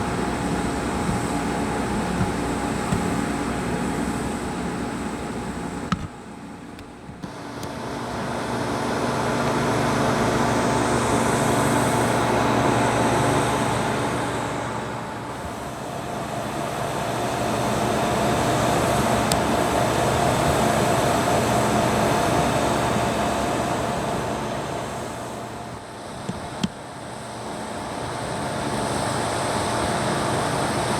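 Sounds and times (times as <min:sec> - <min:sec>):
steady engine hum: 0:00.0 - 0:30.9.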